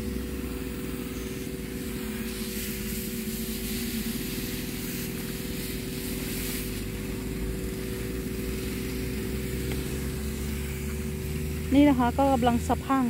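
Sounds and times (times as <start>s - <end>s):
small engine humming: 0.0s - 13.0s
spray hissing from nozzle: 0.0s - 13.0s.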